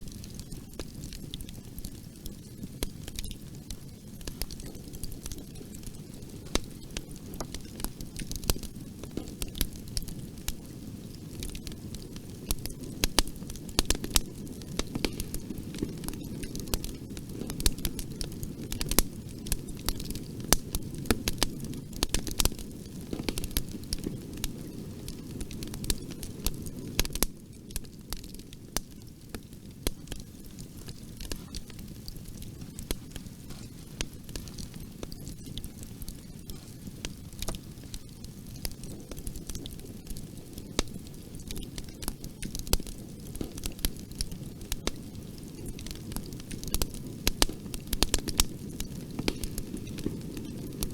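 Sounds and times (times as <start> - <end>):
burning wood crackling and popping: 0.0 - 50.9
flames rushing: 0.1 - 50.9.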